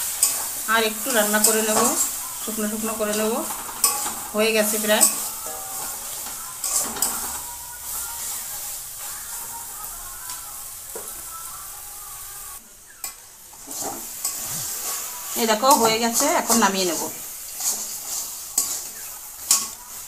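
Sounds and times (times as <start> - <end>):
metal spatula scraping pan: 0.0 - 10.3, 13.5 - 20.0
curry sizzling in a pan: 0.0 - 20.0.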